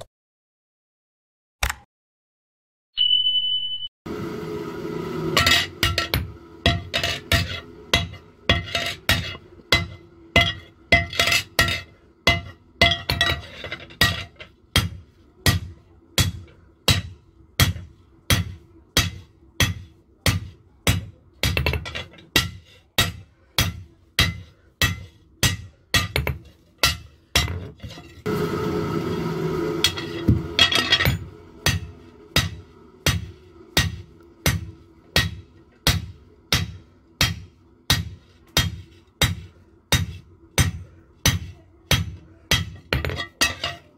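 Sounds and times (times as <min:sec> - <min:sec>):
hammer striking metal on anvil: 0:05.3 - 0:27.6, 0:29.6 - 0:43.9.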